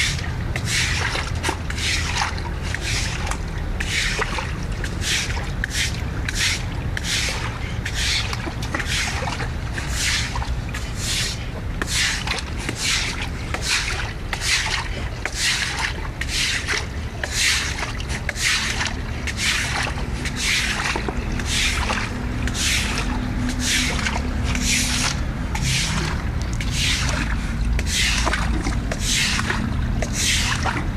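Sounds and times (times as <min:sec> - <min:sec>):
broom sweeping water: 0:00.0 - 0:30.9.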